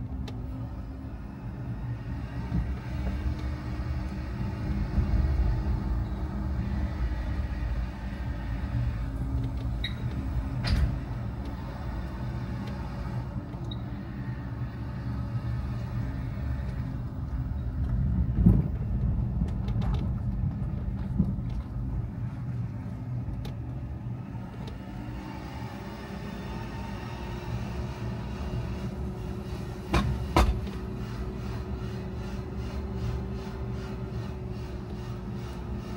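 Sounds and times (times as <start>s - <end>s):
car engine and road noise: 0.0s - 35.9s.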